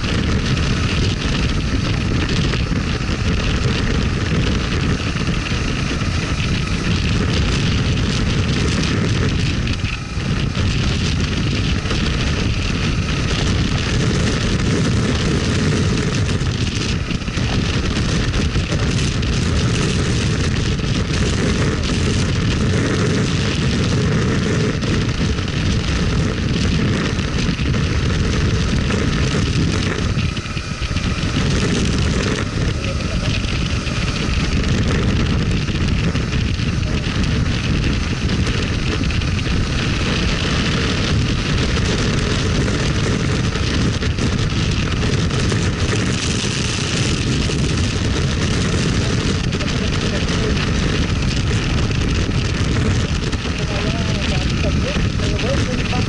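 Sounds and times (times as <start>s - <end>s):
motorcycle engine: 0.0s - 56.0s
road noise: 0.0s - 56.0s
wind buffeting microphone: 0.0s - 56.0s.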